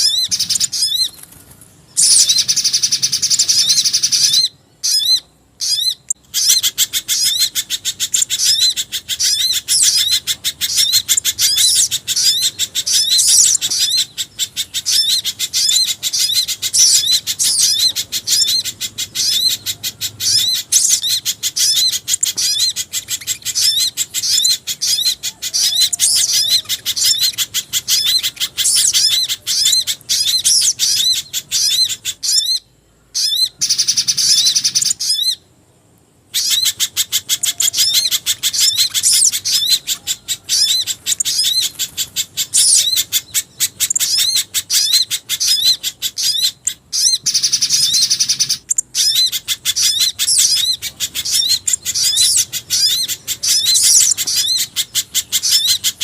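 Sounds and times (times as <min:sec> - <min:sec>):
rapid high-pitched bird chirping: 0:00.0 - 0:01.3, 0:01.9 - 0:35.4, 0:36.3 - 0:56.0.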